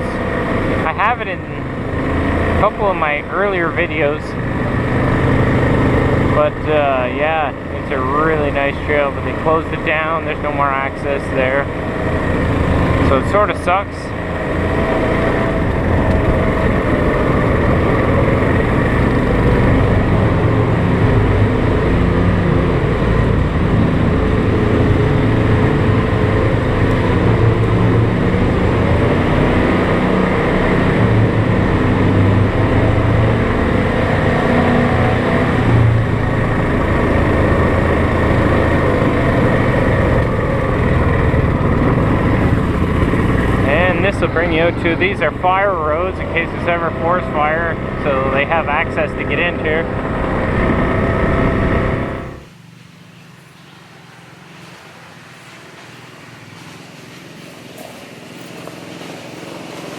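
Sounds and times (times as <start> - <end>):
atv engine droning: 0.0 - 59.9.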